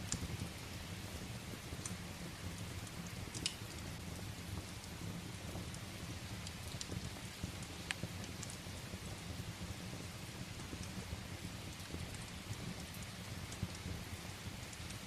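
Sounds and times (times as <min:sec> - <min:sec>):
firewood crackling: 0:00.0 - 0:15.0
steady rain: 0:00.0 - 0:15.0.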